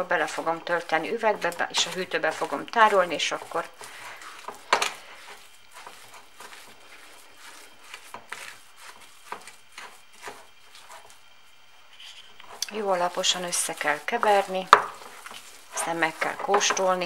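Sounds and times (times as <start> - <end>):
spoon scraping paste in bowl: 0.2 - 11.3, 12.0 - 17.0.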